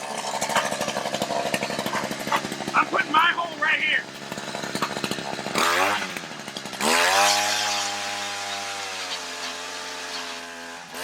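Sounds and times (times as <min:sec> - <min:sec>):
ice auger engine revving: 0:00.0 - 0:11.0.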